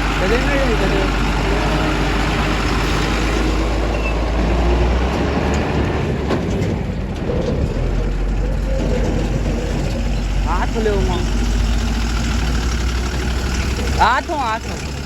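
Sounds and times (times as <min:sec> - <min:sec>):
diesel machinery engine running: 0:00.0 - 0:15.0.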